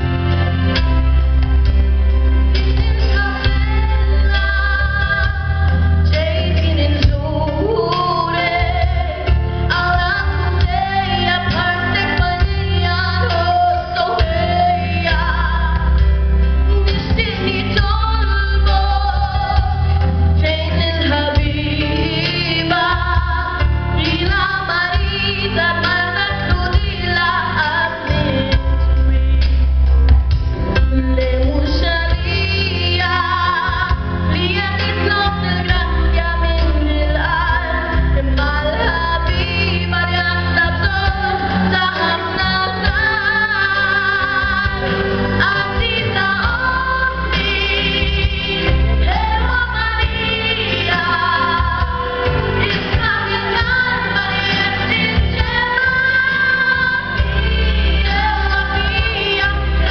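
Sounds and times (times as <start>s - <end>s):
instrumental music with heavy bass: 0.0s - 59.9s
woman singing into microphone: 1.4s - 29.7s, 30.7s - 59.9s.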